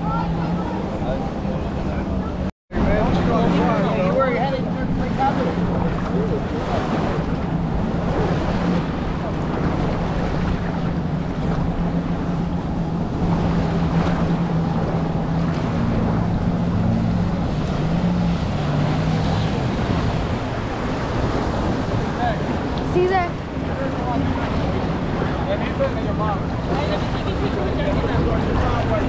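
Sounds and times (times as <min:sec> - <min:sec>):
jet ski engine humming: 0:00.0 - 0:29.0
water lapping: 0:00.0 - 0:29.0
wind rumbling on microphone: 0:00.0 - 0:29.0.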